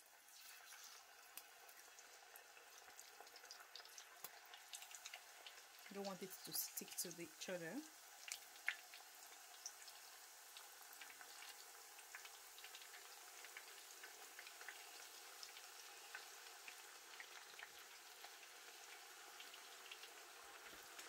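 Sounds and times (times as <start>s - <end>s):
plantain deep-frying in oil: 0.0s - 21.0s.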